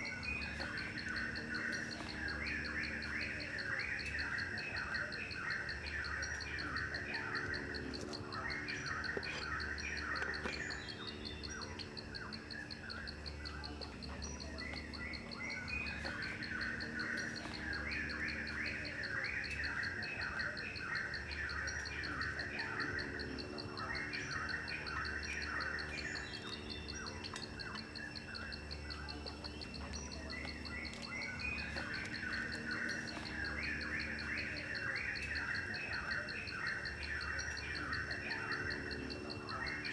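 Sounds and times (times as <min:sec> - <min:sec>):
birds chirping: 0:00.0 - 0:39.9
high-pitched insect trill: 0:00.0 - 0:39.9.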